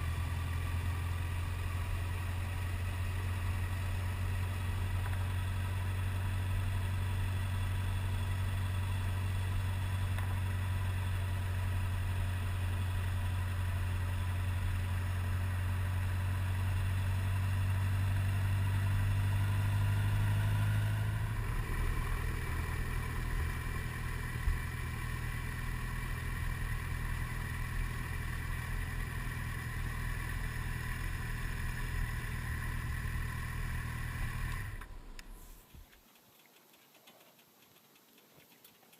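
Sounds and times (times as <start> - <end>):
motorcycle engine droning: 0.0 - 35.7.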